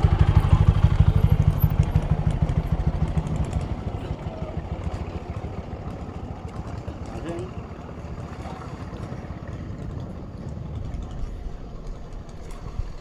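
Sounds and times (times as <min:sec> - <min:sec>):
engine running with low beat: 0:00.0 - 0:13.0.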